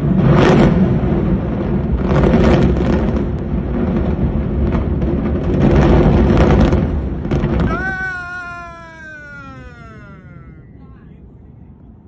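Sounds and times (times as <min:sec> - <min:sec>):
explosive charges going off: 0:00.0 - 0:10.6
deep rumble of collapsing towers: 0:00.0 - 0:12.0.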